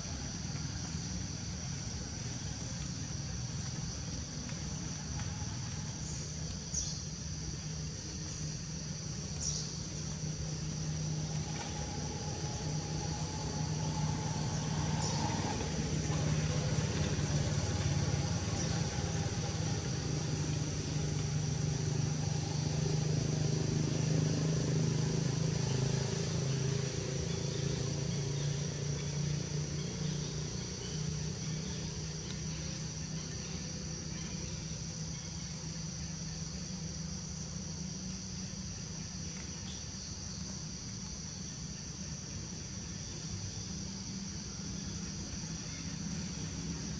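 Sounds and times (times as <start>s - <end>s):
high-pitched insect drone: 0.0s - 46.9s
low steady hum: 0.0s - 46.9s.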